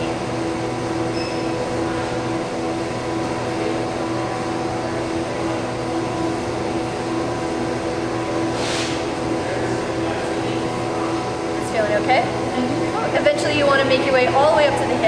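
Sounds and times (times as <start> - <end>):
mechanical hum with held tones: 0.0 - 15.0.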